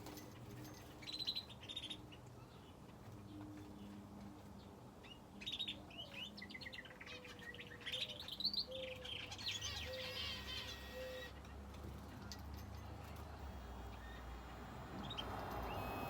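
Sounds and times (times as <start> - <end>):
cage birds chirping and singing: 0.0 - 15.9.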